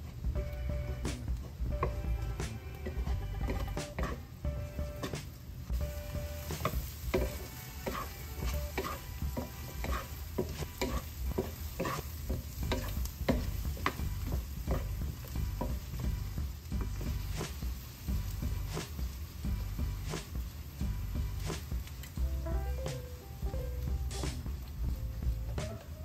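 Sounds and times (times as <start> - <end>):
vegetables sizzling: 0.0 - 26.0
wooden spoon scraping skillet: 0.9 - 22.2.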